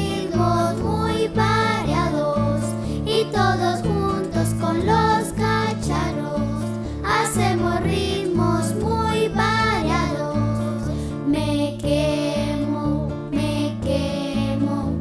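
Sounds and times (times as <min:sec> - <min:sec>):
children's choir singing: 0:00.0 - 0:10.8, 0:12.0 - 0:15.0
instrumental accompaniment with bass line: 0:00.0 - 0:15.0.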